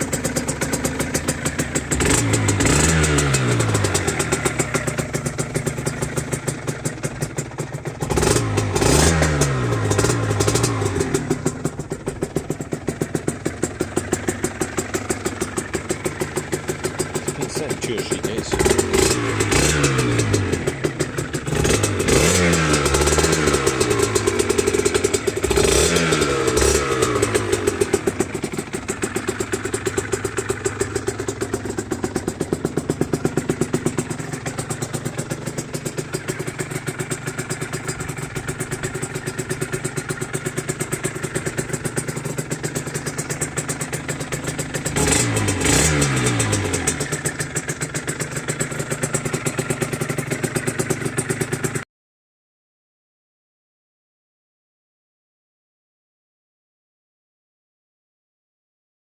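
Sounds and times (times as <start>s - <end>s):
two-stroke motorcycle engine revving: 0.0s - 51.8s.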